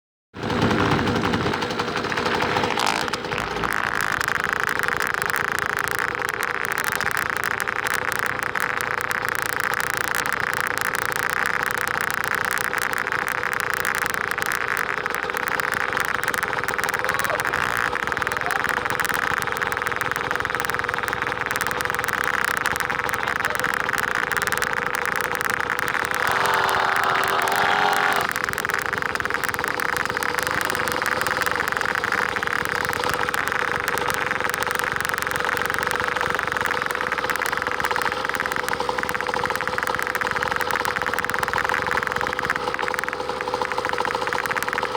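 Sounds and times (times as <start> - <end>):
dirt bike engine running: 0.4 - 44.9.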